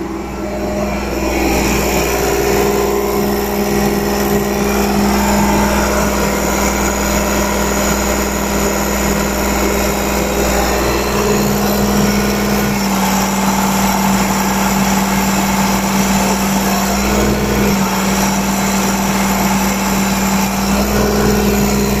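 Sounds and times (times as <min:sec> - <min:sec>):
compaction machine engine humming: 0:00.0 - 0:22.0.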